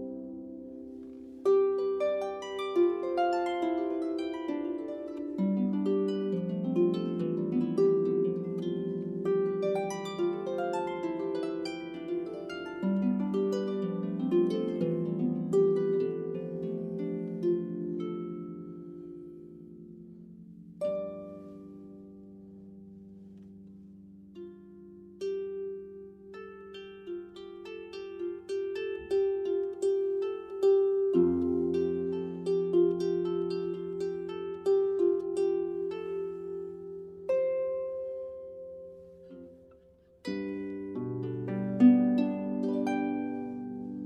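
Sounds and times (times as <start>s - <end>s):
solo harp melody: 0.0s - 44.0s.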